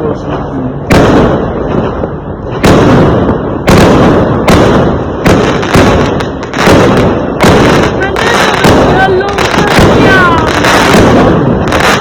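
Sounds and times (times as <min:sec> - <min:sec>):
fireworks bangs: 0:00.1 - 0:12.0.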